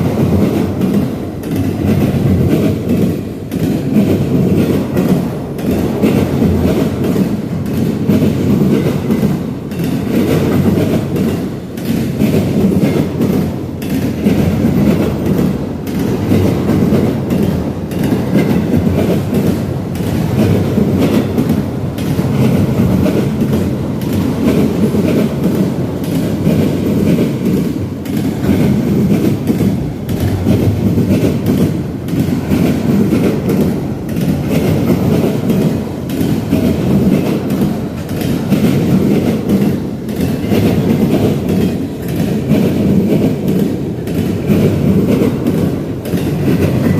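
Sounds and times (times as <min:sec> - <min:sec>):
freight train rumbling: 0:00.0 - 0:46.9
wheels clickety-clack over rail joints: 0:00.0 - 0:46.9.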